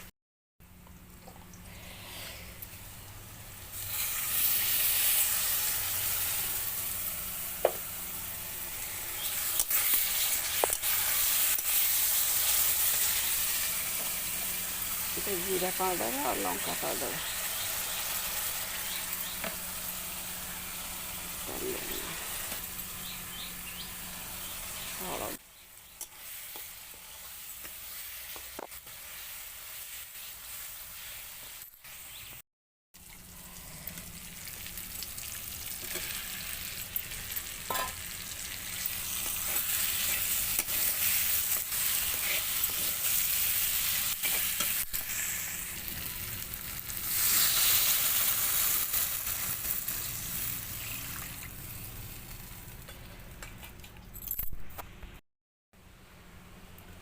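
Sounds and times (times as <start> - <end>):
onions sizzling in hot oil: 1.7 - 32.4, 33.0 - 53.2.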